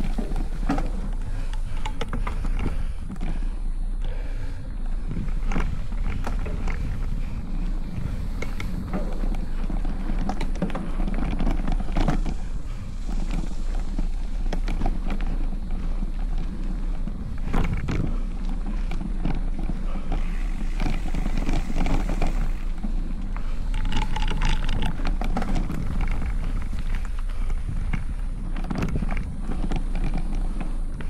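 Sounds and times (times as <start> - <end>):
bike tyres rumbling on dirt: 0.0 - 31.0
clicks and rattles over bumps: 0.0 - 31.0.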